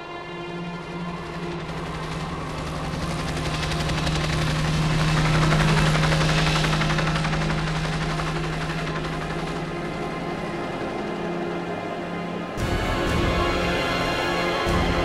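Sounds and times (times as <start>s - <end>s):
helicopter engine drone: 0.0s - 15.0s
helicopter rotor chopping: 0.2s - 15.0s.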